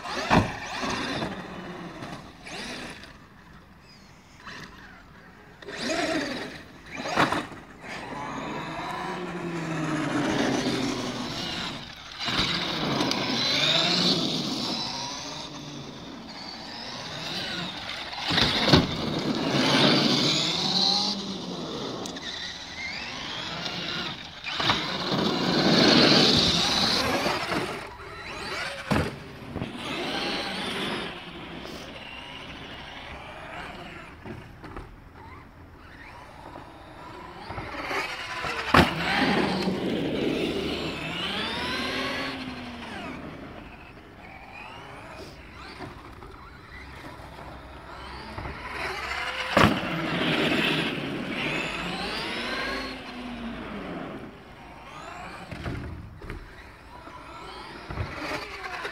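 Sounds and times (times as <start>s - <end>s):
electric motor whining: 0.0s - 58.9s
tyres rasping over asphalt: 0.0s - 58.9s.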